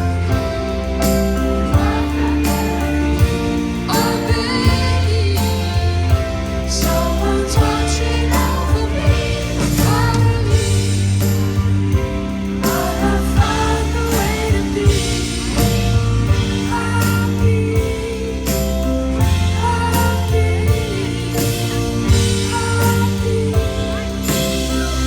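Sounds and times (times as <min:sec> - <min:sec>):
keyboard chords: 0:00.0 - 0:25.0
woman singing: 0:01.7 - 0:11.2, 0:12.7 - 0:25.0.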